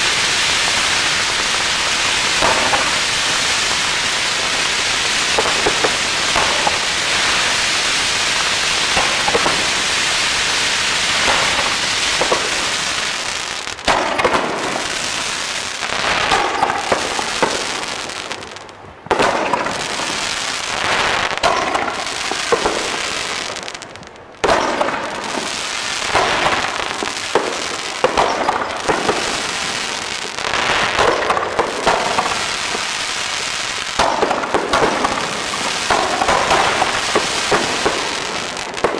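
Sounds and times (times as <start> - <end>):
crackling spraying fireworks: 0.0 - 38.9.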